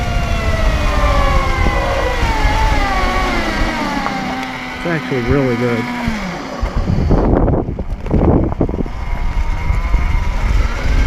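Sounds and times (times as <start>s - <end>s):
electric motor whine: 0.0s - 11.0s
wind buffeting microphone: 0.0s - 11.0s.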